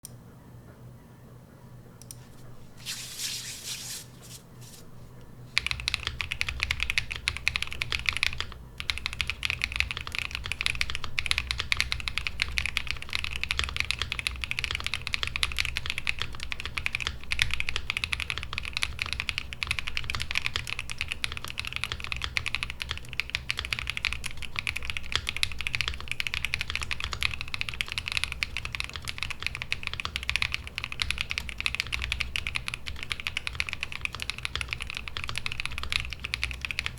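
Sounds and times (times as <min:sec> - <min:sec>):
mechanical keyboard typing: 0:05.6 - 0:36.9.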